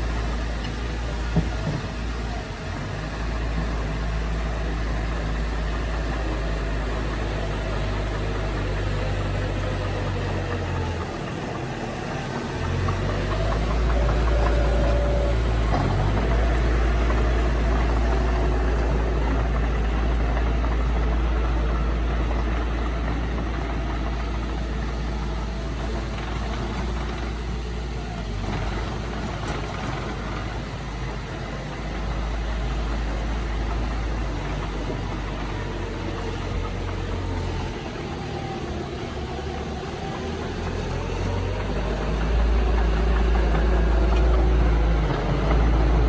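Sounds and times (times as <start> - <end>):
heavy machine engine running: 0.0 - 46.0.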